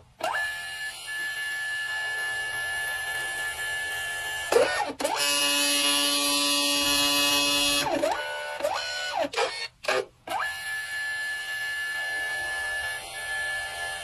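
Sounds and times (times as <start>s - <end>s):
printer motor whining: 0.2s - 14.0s.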